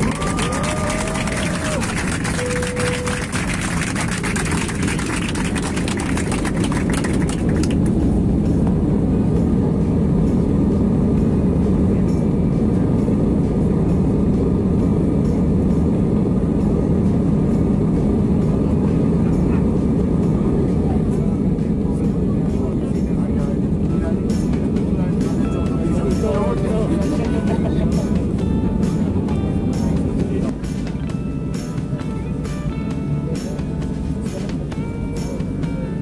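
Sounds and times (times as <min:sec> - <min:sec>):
jet engine cabin noise: 0:00.0 - 0:36.0.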